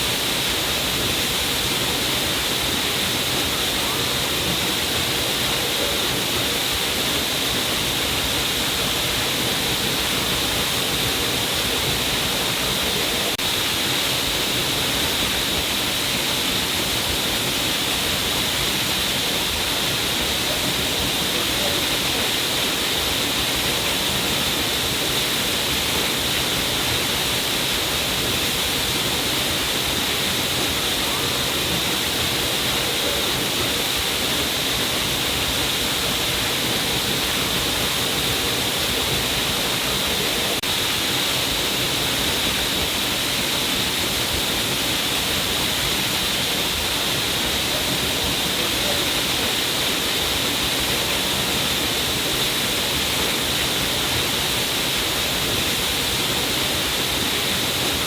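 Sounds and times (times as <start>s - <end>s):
waterfall splashing rush: 0.0s - 58.0s.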